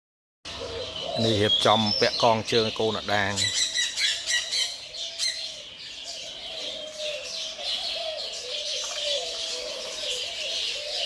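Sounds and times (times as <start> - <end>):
birds chirping: 0.4 - 11.0
doves cooing: 0.5 - 11.0.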